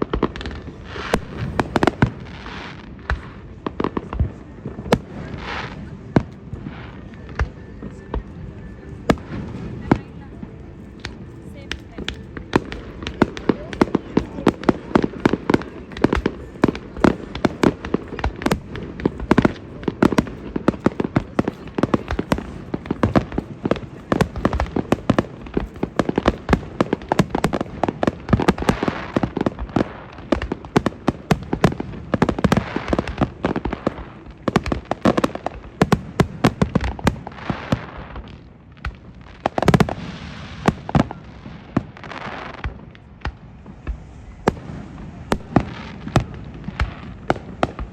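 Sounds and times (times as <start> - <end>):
fireworks bangs and pops: 0.0 - 10.2, 10.9 - 47.9
fireworks crackling: 0.0 - 47.9
loud fireworks booms: 0.0 - 47.9.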